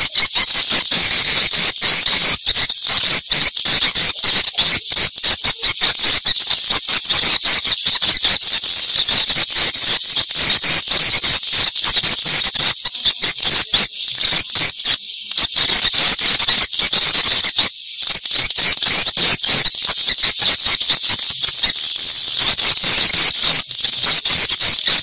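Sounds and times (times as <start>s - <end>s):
swiftlets twittering: 0.0s - 25.0s.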